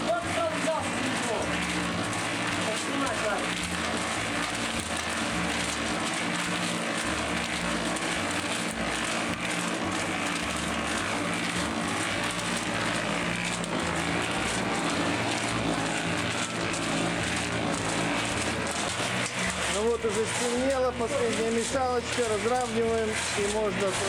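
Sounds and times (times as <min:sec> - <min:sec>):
concrete mixer truck engine hum: 0:00.0 - 0:24.0
concrete pouring: 0:00.0 - 0:24.0.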